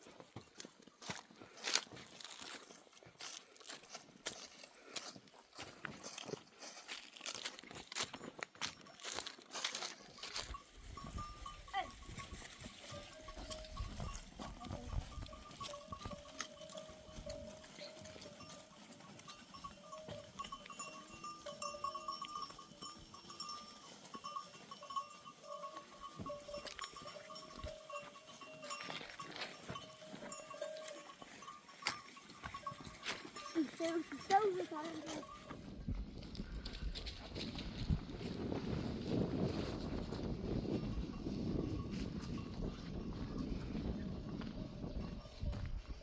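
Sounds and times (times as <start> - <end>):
animal bells ringing: 0.0 - 46.0.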